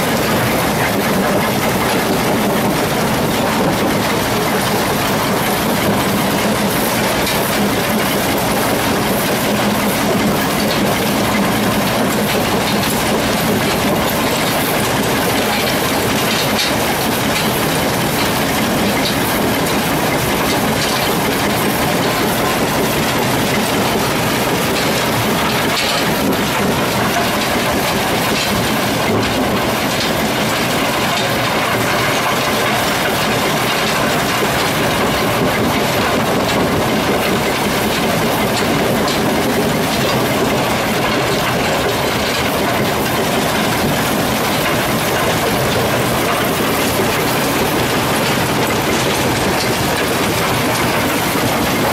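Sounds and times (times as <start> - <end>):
machinery clatter and rattle: 0.0 - 51.9.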